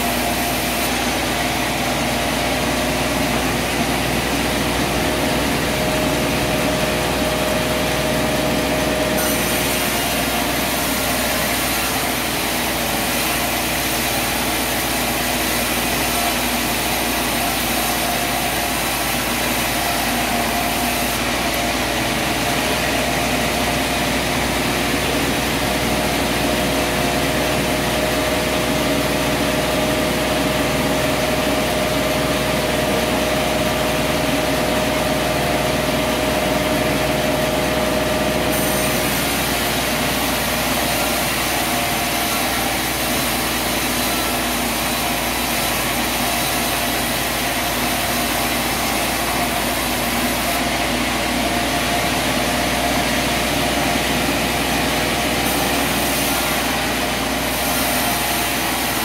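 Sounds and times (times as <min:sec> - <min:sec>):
sawmill saw droning: 0:00.0 - 0:59.0.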